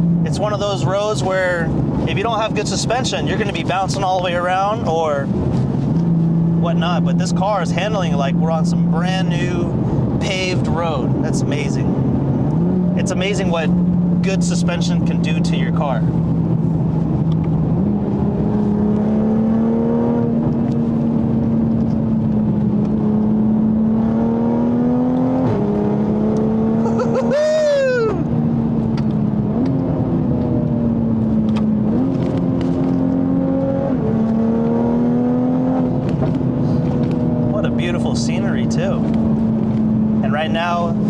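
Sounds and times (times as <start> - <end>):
car engine running from inside cabin: 0.0 - 41.0.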